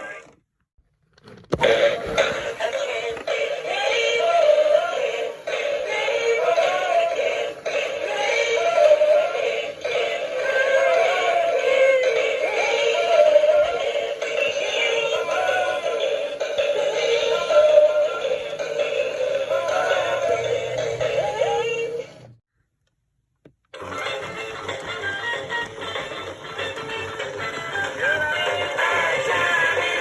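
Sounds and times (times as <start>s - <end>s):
tinny pop song from small speaker: 1.5s - 22.4s, 23.8s - 30.0s.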